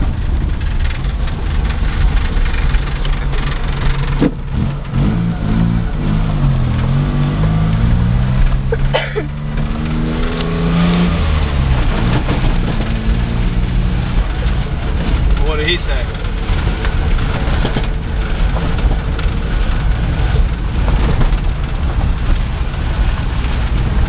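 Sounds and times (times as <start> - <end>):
car engine revving: 0.0 - 24.0
road noise: 0.0 - 24.0.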